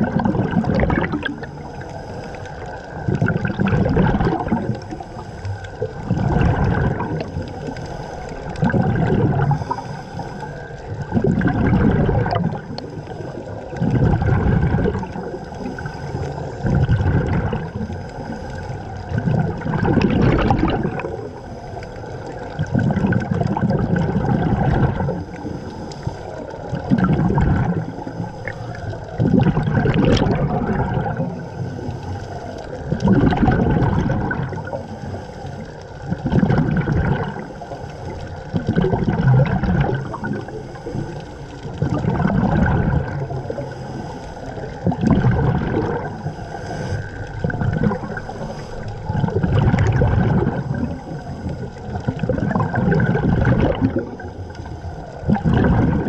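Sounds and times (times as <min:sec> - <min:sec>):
steady underwater background: 0:00.0 - 0:56.0
underwater exhaled bubbles: 0:00.0 - 0:56.0.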